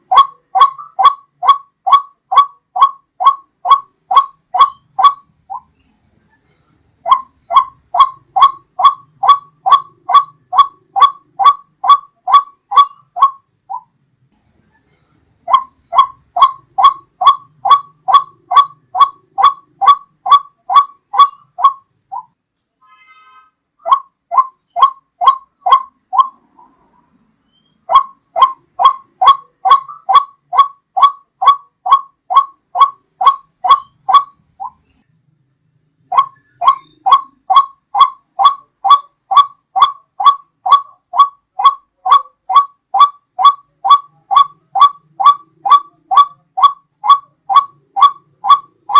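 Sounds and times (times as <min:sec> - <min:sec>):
waterhen calls: 0:00.0 - 0:05.8, 0:07.0 - 0:13.9, 0:15.4 - 0:22.4, 0:23.8 - 0:26.9, 0:27.5 - 0:34.9, 0:36.0 - 0:48.9.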